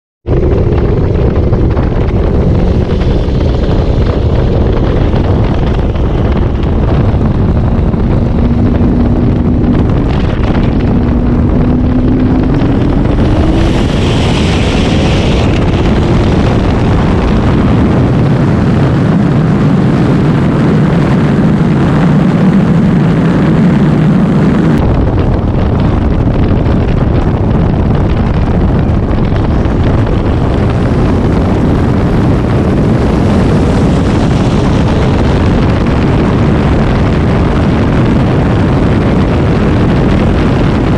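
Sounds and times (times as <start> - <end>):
car engines at full throttle: 0.2 - 40.9
wind and road noise: 0.2 - 40.9.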